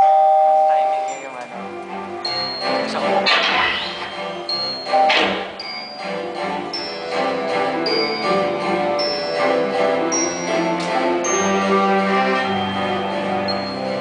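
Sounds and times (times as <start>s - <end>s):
held instrumental notes: 0.0s - 14.0s.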